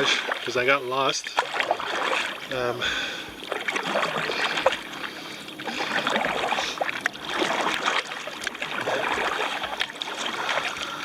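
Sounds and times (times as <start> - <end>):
kayak paddle splashing water: 0.0 - 11.0.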